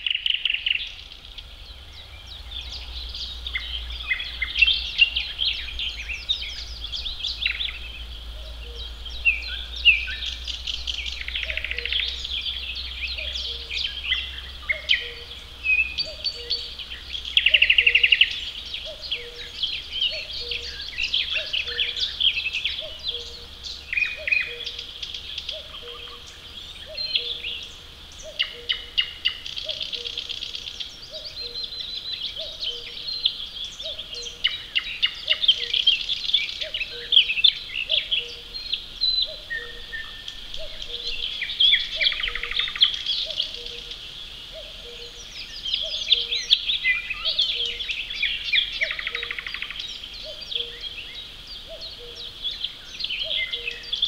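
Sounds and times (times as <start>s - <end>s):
songbirds chirping and trilling: 0.0s - 54.0s
cuckoo calling: 2.5s - 54.0s.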